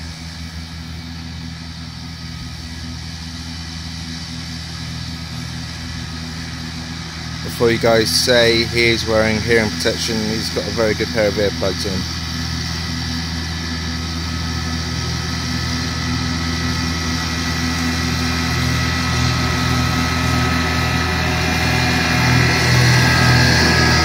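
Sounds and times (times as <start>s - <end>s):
ride-on mower running: 0.0s - 24.0s.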